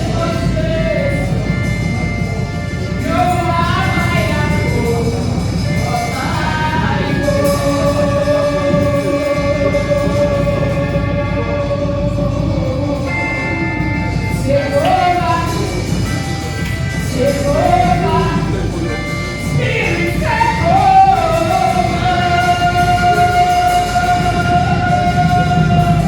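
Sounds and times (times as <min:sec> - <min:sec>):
gospel voices singing with band: 0:00.0 - 0:26.0.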